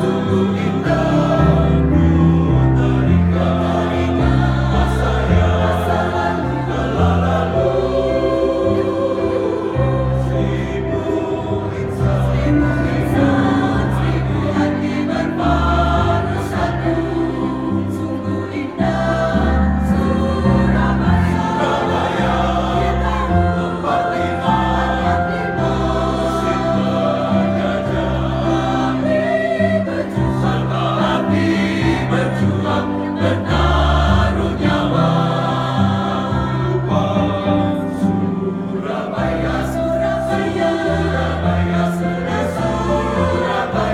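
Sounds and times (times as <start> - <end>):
group of voices singing: 0.0 - 43.9.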